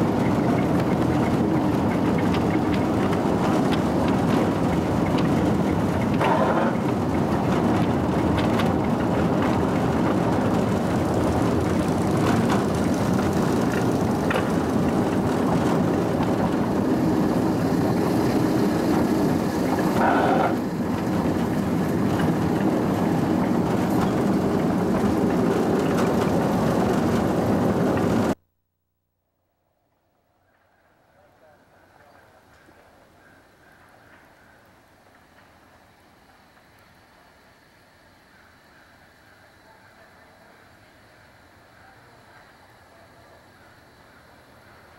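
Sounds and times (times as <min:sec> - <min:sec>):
steam locomotive running: 0:00.0 - 0:28.4, 0:30.5 - 0:44.9.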